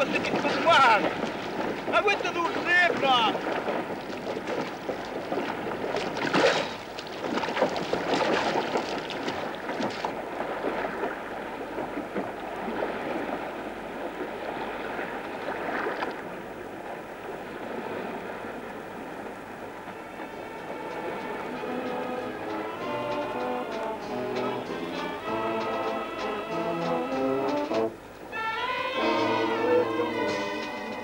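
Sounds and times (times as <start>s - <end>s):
sea splashing against boat: 0.0s - 31.0s
wind on microphone: 0.0s - 31.0s.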